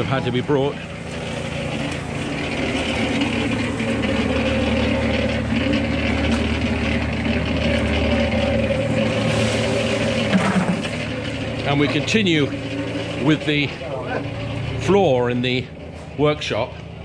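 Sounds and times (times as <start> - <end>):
cement mixer motor hum: 0.0 - 17.0.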